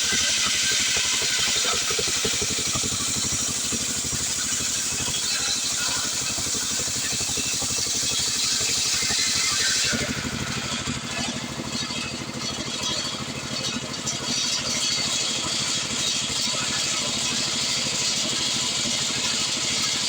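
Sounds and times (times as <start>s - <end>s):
chainsaw sawing through log: 0.0s - 20.0s.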